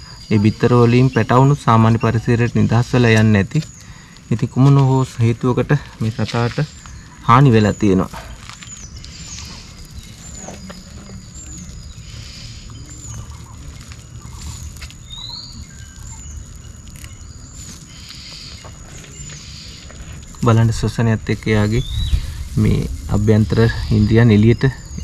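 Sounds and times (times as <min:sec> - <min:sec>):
faint rustling: 0:03.5 - 0:25.0.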